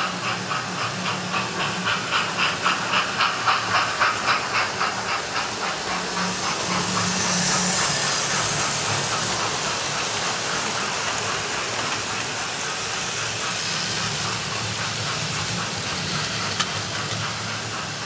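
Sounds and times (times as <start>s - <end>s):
model trains rumbling on track: 0.0s - 18.0s.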